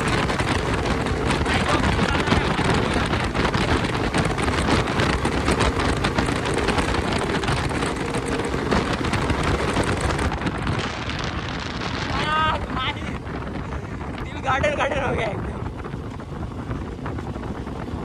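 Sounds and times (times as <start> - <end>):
motorcycle engine and exhaust crackles: 0.0 - 18.0
wind on microphone: 0.0 - 18.0.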